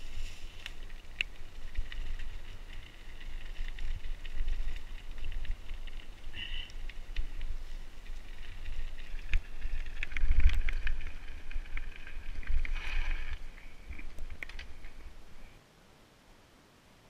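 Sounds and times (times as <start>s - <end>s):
bike clicks and rattles: 0.0s - 15.4s
wind rumble on microphone: 0.0s - 15.6s.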